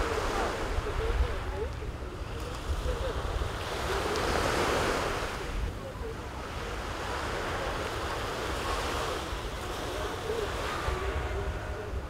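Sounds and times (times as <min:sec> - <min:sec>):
sea water washing ashore: 0:00.0 - 0:12.0.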